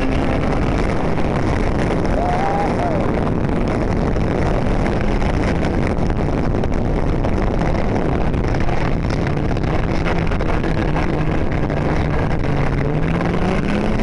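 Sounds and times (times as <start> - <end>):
snowmobile engine running: 0.0 - 14.0
wind rushing over microphone: 0.0 - 14.0.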